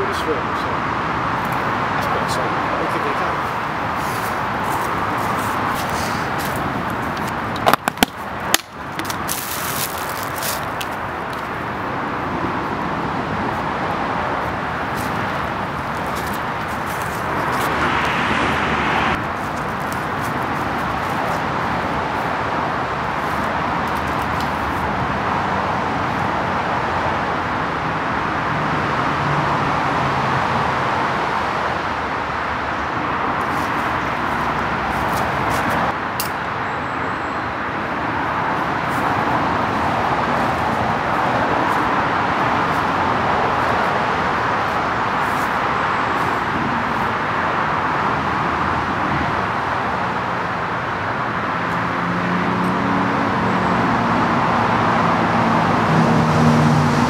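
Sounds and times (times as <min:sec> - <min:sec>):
motorway traffic rushing: 0:00.0 - 0:57.0.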